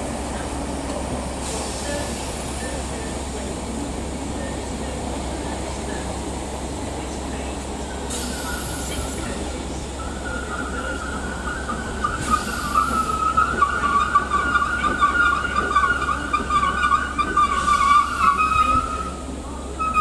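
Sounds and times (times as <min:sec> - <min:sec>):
low train rumble: 0:00.0 - 0:20.0.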